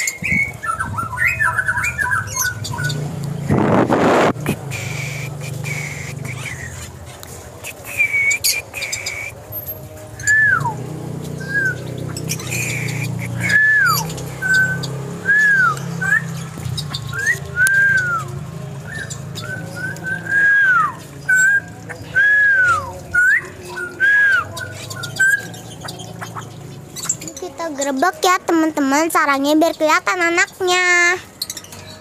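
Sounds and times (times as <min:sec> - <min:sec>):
birds whistling: 0:00.0 - 0:32.0.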